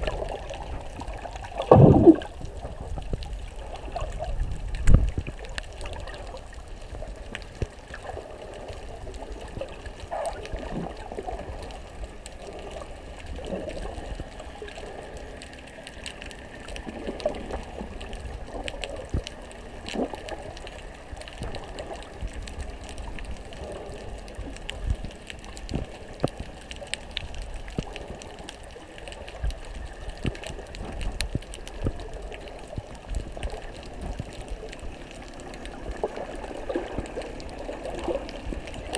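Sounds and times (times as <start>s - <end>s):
muffled rumble of moving water: 0.0s - 38.9s
small clicks and crackles: 0.0s - 38.9s.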